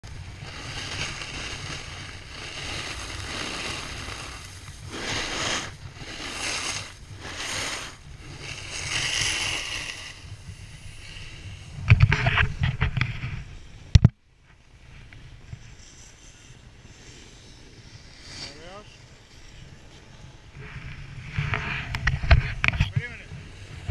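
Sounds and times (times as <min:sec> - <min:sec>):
snowboard carving over snow: 0:00.0 - 0:23.9
wind on the microphone: 0:00.0 - 0:23.9.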